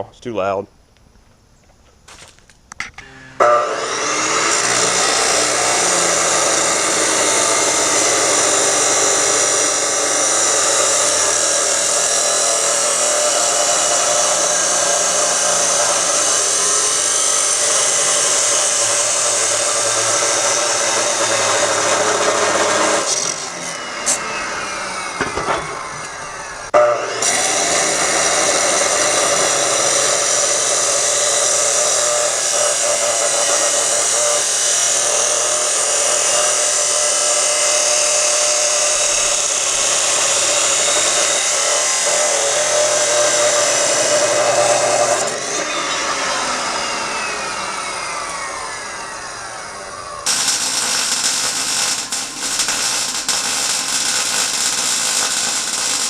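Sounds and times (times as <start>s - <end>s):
power tool cutting metal pipe: 2.9s - 56.0s.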